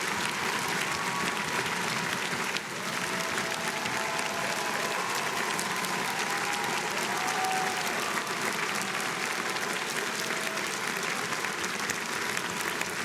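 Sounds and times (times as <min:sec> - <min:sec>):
faint crowd voices: 0:00.0 - 0:13.0
large audience applauding: 0:00.0 - 0:13.0.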